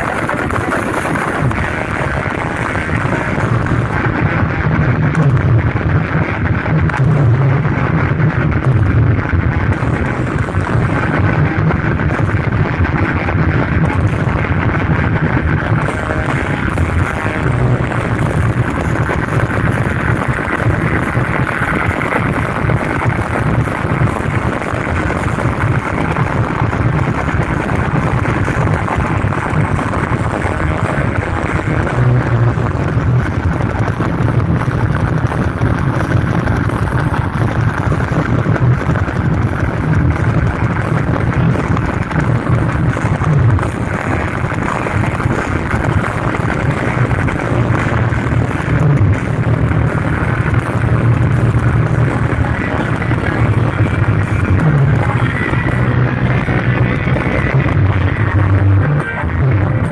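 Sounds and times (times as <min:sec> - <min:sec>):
loud bass-heavy music: 0:00.0 - 0:59.9.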